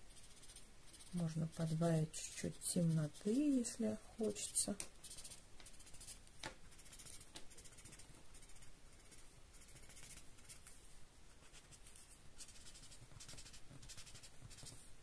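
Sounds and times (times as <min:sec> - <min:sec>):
marker scratching on paper: 0:00.0 - 0:03.7, 0:04.3 - 0:10.7, 0:11.4 - 0:14.8.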